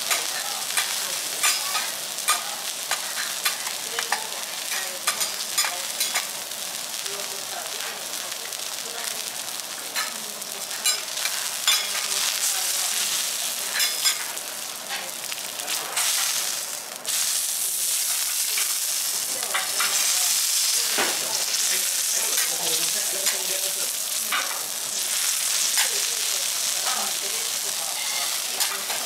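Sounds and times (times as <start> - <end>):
beef sizzling on a griddle: 0.0 - 29.0.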